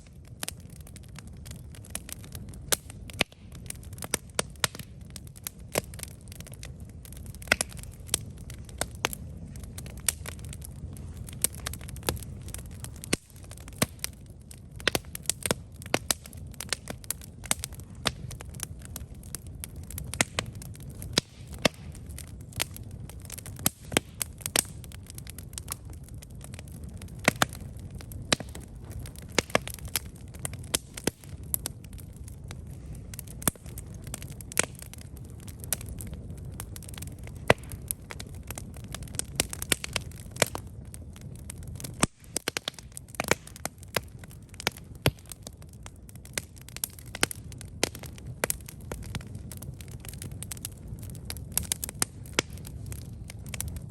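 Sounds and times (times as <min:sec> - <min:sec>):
campfire crackling and popping: 0:00.0 - 0:53.9
low rumble of flames: 0:00.0 - 0:53.9.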